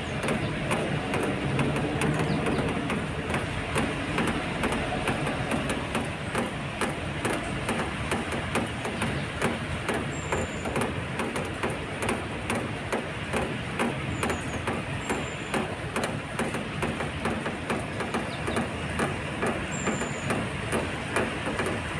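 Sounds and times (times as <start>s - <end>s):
low rumble of car traffic: 0.0s - 21.9s
rain tapping on an awning: 0.0s - 21.9s.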